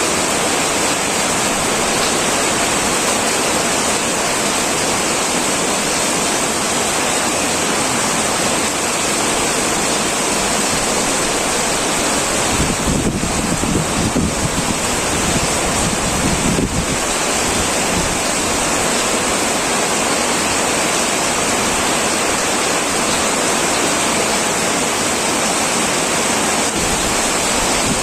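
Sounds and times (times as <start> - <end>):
heavy rain on a tin roof: 0.0 - 28.0.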